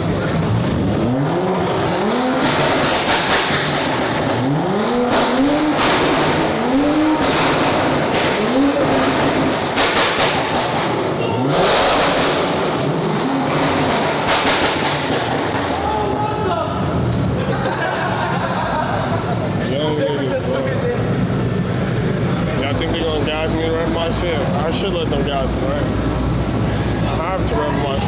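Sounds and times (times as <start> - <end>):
car engines revving: 0.0 - 28.0
rumble of running engines: 0.0 - 28.0.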